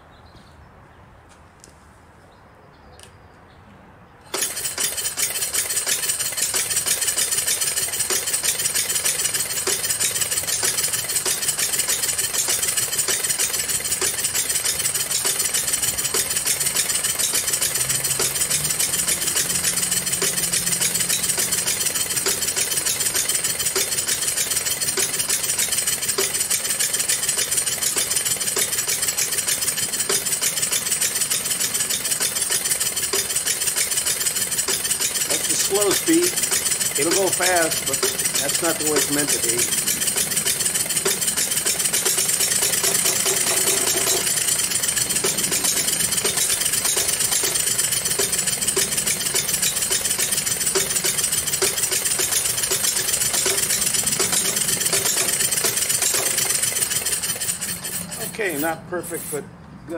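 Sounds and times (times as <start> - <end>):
engine rapid clatter: 4.3 - 59.4.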